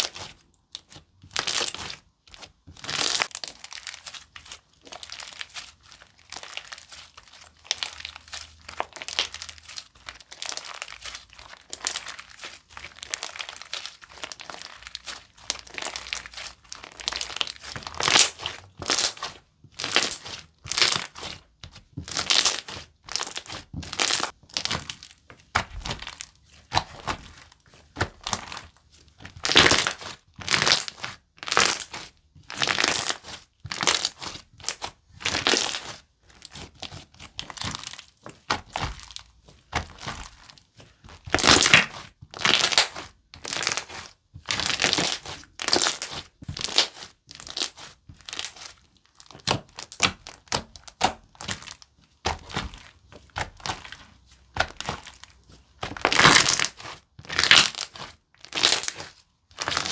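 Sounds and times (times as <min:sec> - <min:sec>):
slime squishing by hand: 0:00.0 - 0:59.9.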